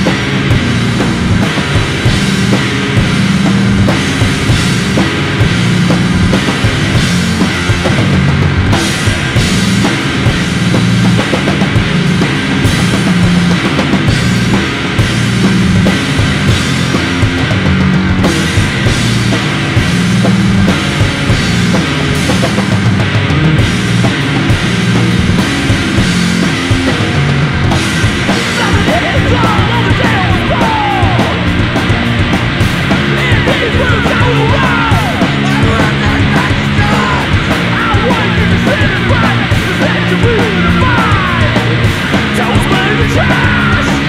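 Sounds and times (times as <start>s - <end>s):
rock band with drum kit: 0.0s - 44.0s.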